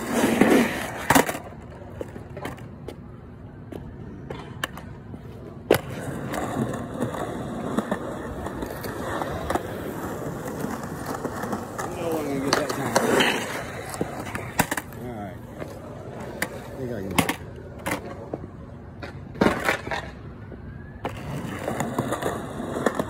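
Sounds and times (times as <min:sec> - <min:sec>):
skateboard wheels rolling on concrete: 0:00.0 - 0:23.0
skateboard clacking: 0:03.7 - 0:23.0.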